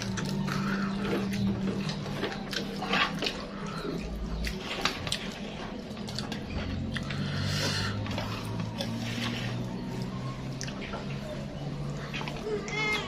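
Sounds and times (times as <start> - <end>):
person chewing and lip-smacking: 0.0 - 10.9.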